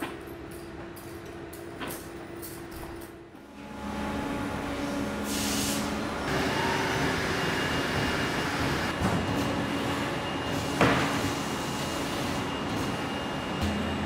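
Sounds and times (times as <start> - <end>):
factory machinery humming: 0.0 - 14.0.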